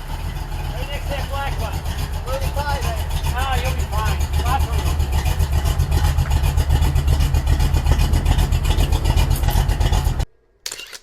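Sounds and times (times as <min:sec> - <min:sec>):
car engine running loudly: 0:00.0 - 0:10.3.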